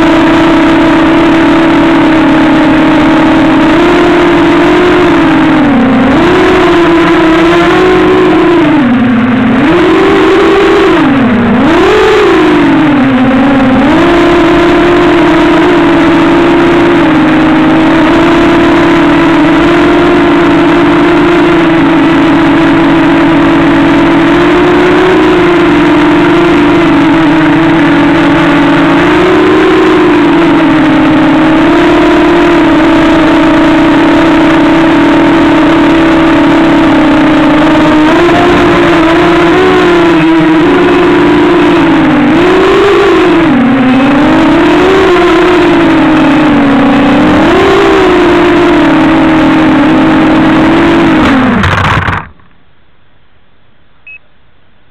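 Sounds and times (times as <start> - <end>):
drone propellers whining: 0.0 - 52.5.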